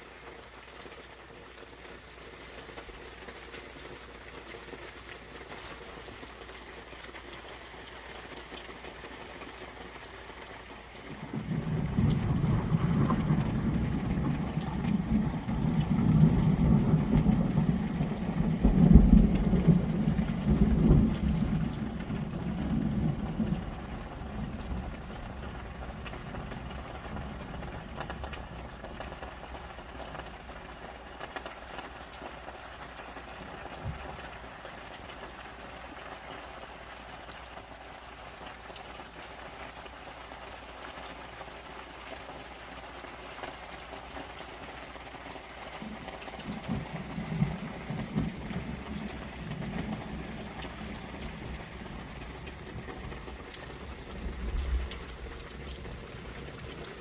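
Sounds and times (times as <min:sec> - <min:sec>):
rain falling on tarps: 0:00.0 - 0:57.0.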